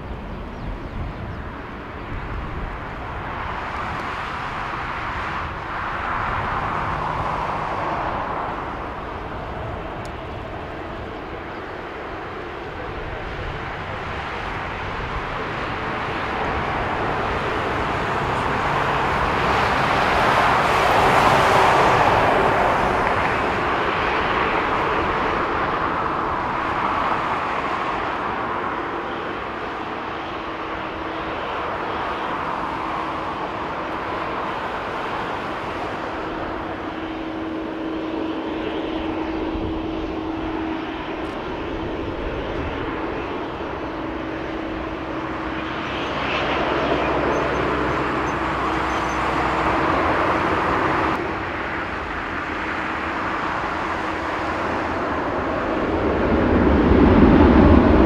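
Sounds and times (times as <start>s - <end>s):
jet engines rushing hum: 0.0s - 58.0s.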